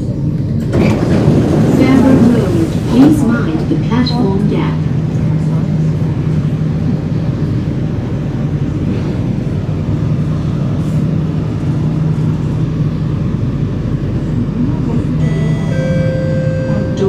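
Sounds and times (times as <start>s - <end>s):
train hum in tunnel: 0.0s - 17.0s
wheels rumbling on rail: 0.0s - 17.0s.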